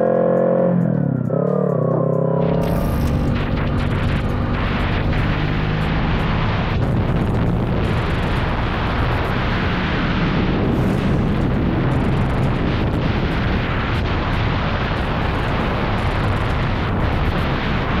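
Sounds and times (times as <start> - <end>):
motorcycle engine drone: 0.0 - 18.0
wind rushing on microphone: 3.2 - 18.0.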